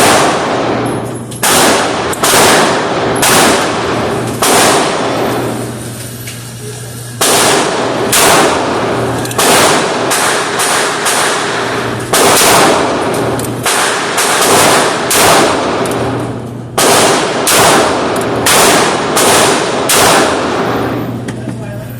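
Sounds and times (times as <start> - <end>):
gunshots with echo: 0.0 - 5.7, 7.2 - 21.2.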